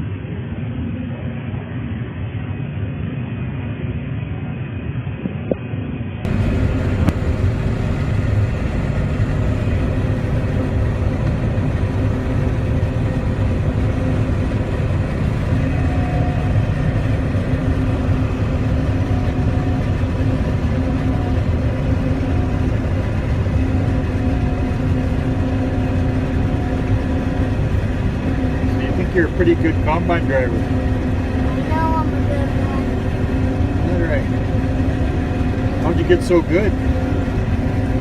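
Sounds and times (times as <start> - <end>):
combine harvester engine drone: 0.0 - 38.0.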